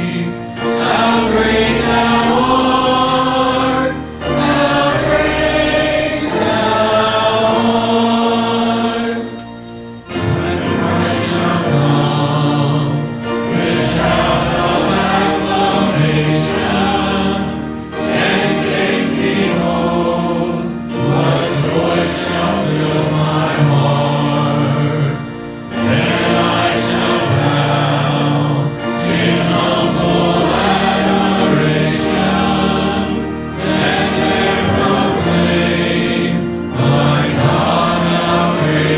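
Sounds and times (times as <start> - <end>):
group singing a hymn: 0.0 - 38.9
instrumental accompaniment: 0.0 - 38.9.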